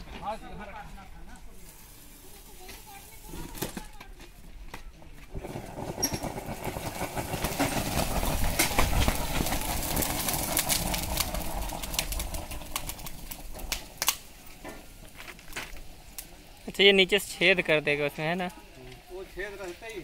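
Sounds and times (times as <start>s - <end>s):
thermite hissing and crackling: 0.0s - 20.0s.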